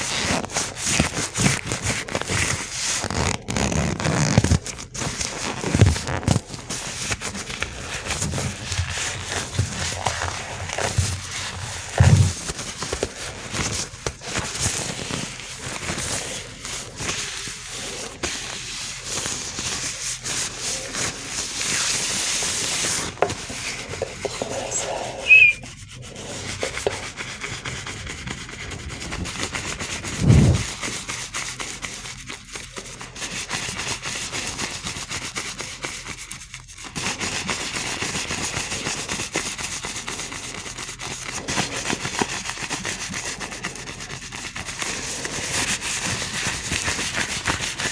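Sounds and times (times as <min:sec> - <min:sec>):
gloved hands rubbing and scratching: 0:00.0 - 0:47.9.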